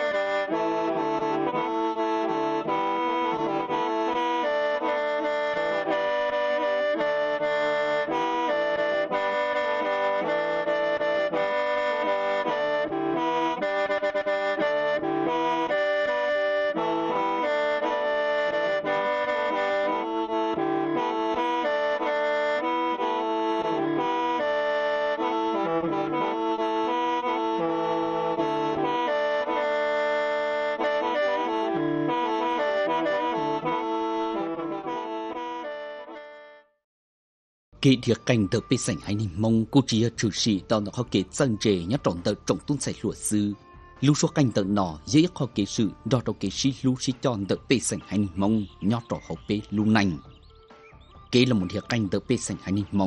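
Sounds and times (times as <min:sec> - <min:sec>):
accordion-like reed instrument chords: 0:00.0 - 0:36.8, 0:37.8 - 0:53.0.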